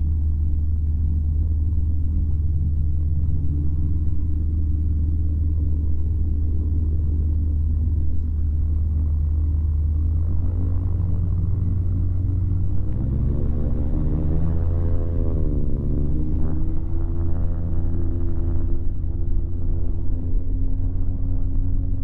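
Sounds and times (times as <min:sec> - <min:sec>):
microlight engine droning: 0:00.0 - 0:22.0.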